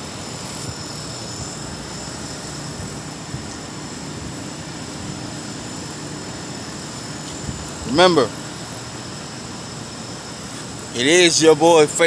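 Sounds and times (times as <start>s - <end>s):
faint steady hum: 0.0s - 12.0s
traffic rumble: 0.0s - 12.0s.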